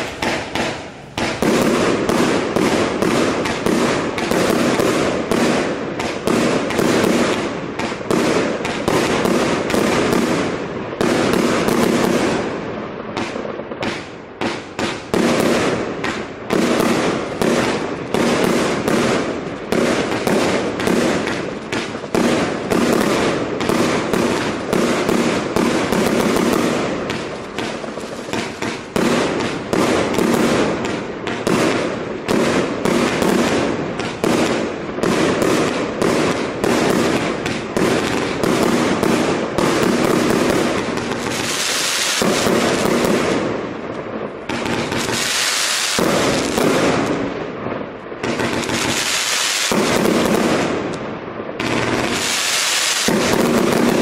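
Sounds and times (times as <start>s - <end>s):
firework shots launching and bursting: 0.0s - 54.0s.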